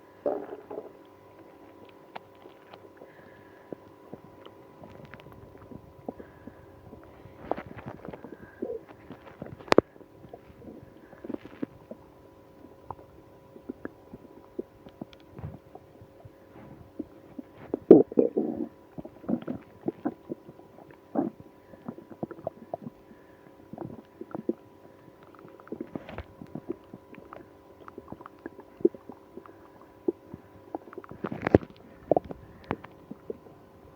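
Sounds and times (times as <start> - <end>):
stomach gurgling and rumbling: 0.0 - 33.9.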